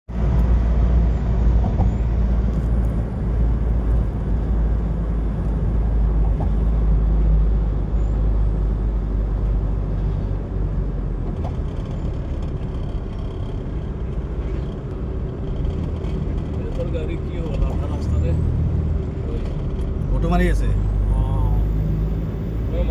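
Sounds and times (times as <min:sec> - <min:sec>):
vehicle rumble with road noise: 0:00.0 - 0:22.9.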